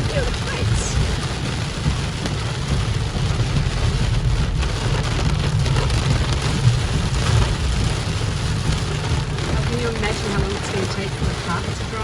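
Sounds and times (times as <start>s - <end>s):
car driving on wet road: 0.0s - 12.0s
heavy rain on a car: 0.0s - 12.0s.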